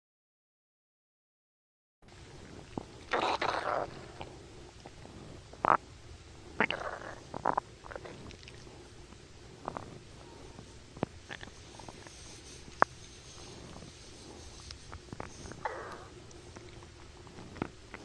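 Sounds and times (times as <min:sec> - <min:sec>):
stomach rumbling: 0:02.2 - 0:18.0.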